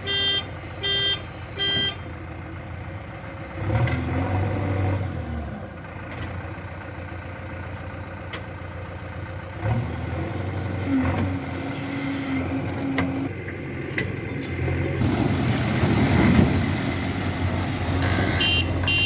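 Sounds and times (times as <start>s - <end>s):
heavy machinery engine humming: 0.0s - 19.0s.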